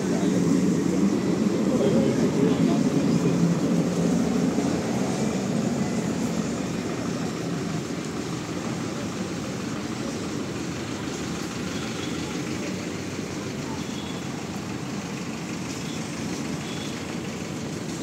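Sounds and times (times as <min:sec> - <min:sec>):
rumble of passing traffic: 0:00.0 - 0:18.0.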